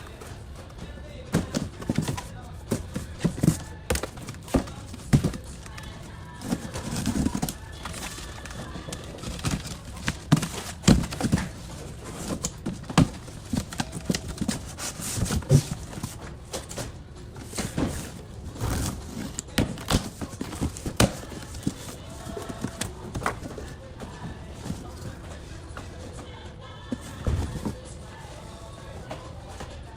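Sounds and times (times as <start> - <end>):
boxes knocking and thumping: 0.0 - 27.8.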